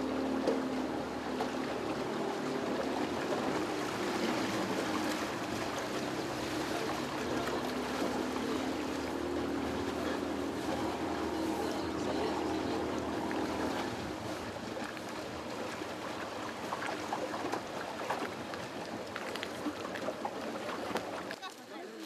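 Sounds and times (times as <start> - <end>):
boat motor running: 0.0 - 22.0
water rushing along hull: 0.0 - 22.0.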